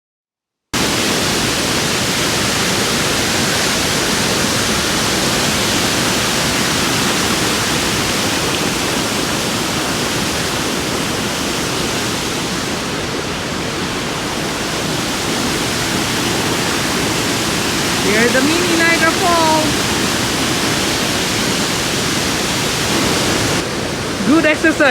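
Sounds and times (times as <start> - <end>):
water pouring over waterfall: 0.8 - 24.9.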